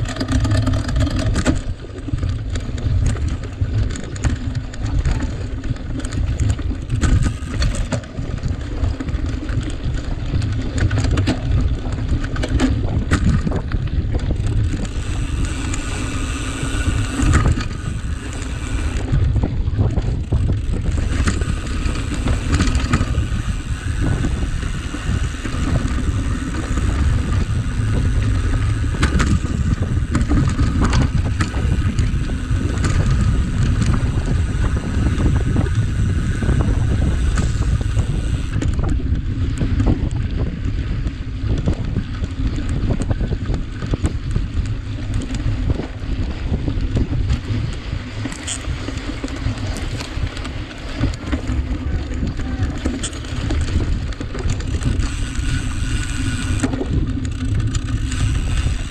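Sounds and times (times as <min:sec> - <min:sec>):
bike rattles and clicks: 0:00.0 - 0:58.9
wind rumble on microphone: 0:00.0 - 0:58.9.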